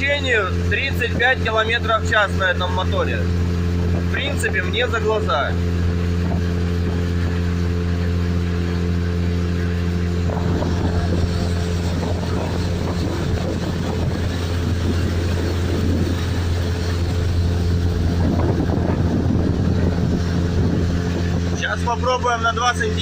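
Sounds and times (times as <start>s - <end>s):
outboard motor running: 0.0s - 23.0s
rushing water: 0.0s - 23.0s
wind noise: 3.3s - 23.0s.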